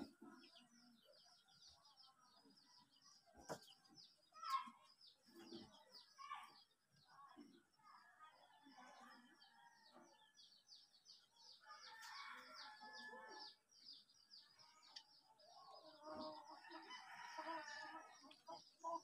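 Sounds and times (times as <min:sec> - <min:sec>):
faint bird chirping: 0:00.0 - 0:19.0.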